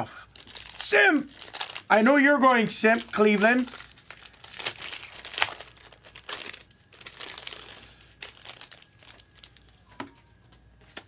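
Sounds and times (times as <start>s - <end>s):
plastic packaging crinkling and tearing: 0.2s - 9.8s.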